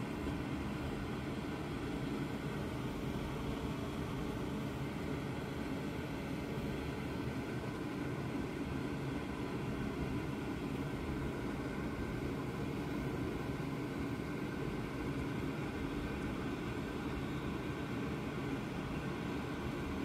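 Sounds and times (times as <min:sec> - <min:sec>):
range hood fan running: 0:00.0 - 0:20.0.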